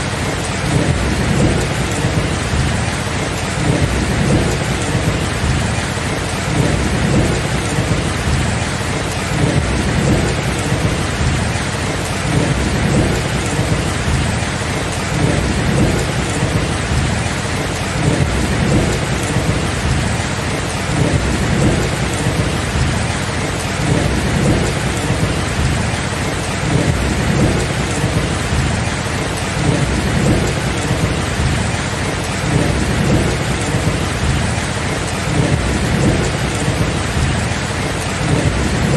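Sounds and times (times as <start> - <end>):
low thunder rumbling: 0.0 - 38.9
steady rain: 0.0 - 38.9.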